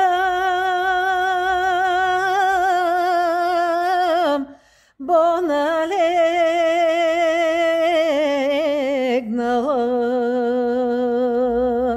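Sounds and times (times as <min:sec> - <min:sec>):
woman singing unaccompanied: 0:00.0 - 0:11.9.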